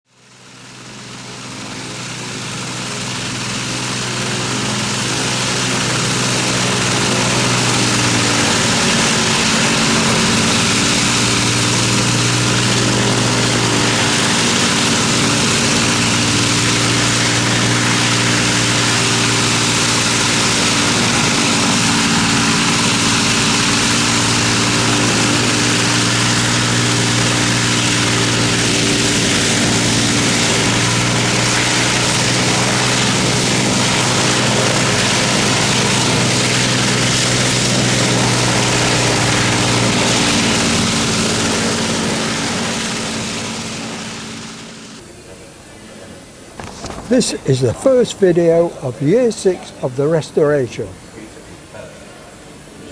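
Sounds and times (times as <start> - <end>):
aircraft propeller engines droning: 0.1 - 52.8.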